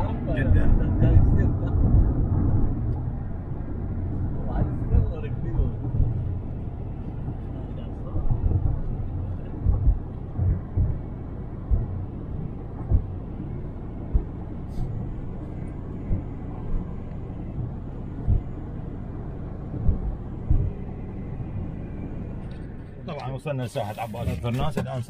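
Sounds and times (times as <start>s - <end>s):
low thumps: 0.0s - 23.1s
car cabin road rumble: 0.0s - 25.0s.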